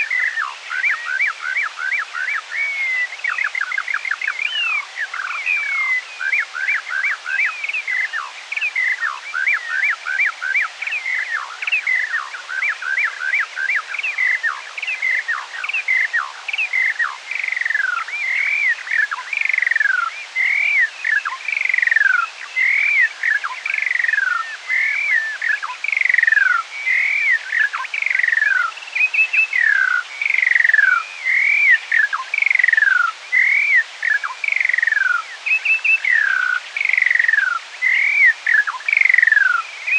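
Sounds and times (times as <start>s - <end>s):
slowed birdsong chirps and trills: 0.0s - 39.9s.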